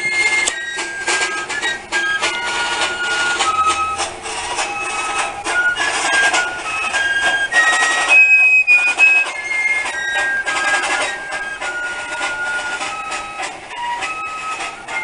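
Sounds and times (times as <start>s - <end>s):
slow wind instrument melody: 0.0s - 15.0s
steady hiss: 0.0s - 15.0s.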